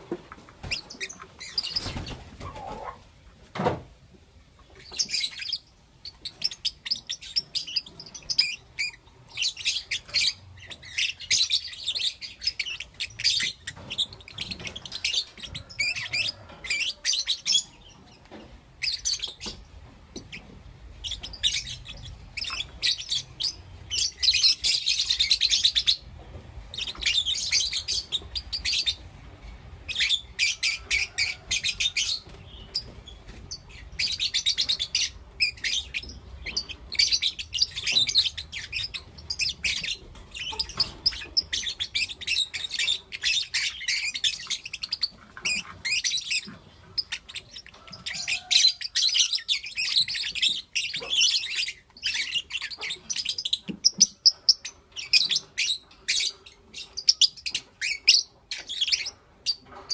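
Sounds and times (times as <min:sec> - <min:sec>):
lovebirds chirping: 0:00.0 - 0:03.0, 0:04.6 - 0:59.9.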